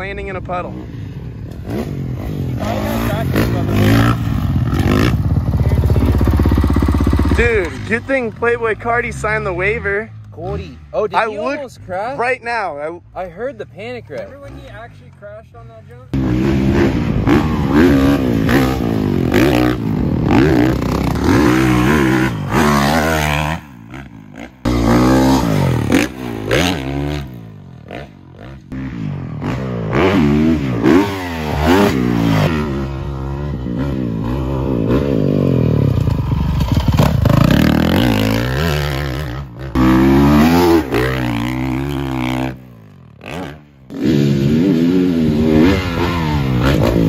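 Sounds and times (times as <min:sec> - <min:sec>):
dirt bike engine revving: 0:00.0 - 0:12.7, 0:16.1 - 0:47.0.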